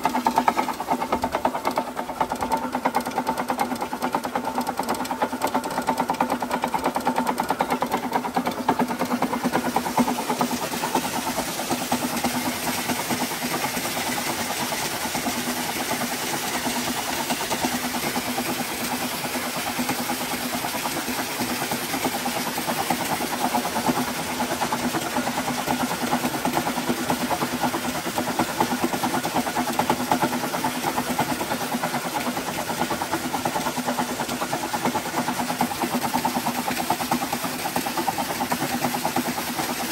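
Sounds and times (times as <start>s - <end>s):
motor driven flywheel humming: 0.0s - 39.9s
water gushing: 0.0s - 39.9s
water pump running: 0.0s - 39.9s.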